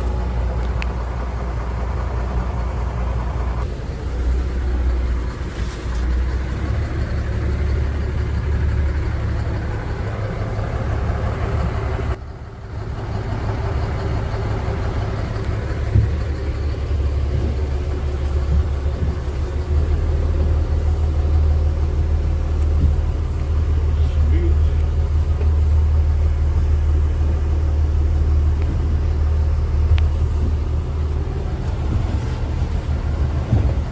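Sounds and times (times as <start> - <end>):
vehicle engine rumble: 0.0 - 33.9.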